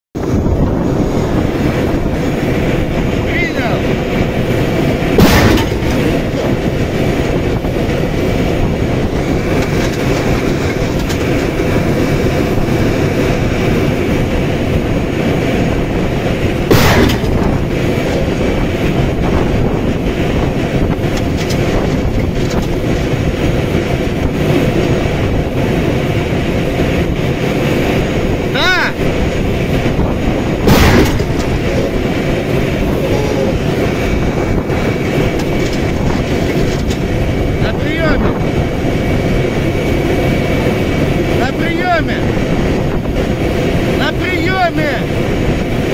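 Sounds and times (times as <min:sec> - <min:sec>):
tank engine and tracks rumbling: 0:00.2 - 0:45.9
loud bangs: 0:01.3 - 0:39.2.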